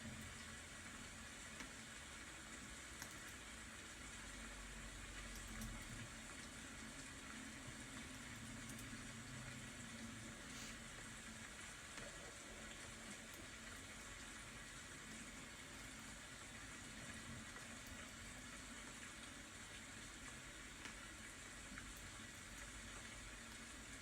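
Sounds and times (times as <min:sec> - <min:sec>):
water drip ticks: 0:00.0 - 0:10.2, 0:10.9 - 0:24.0
faint steady rain hiss: 0:00.0 - 0:24.0.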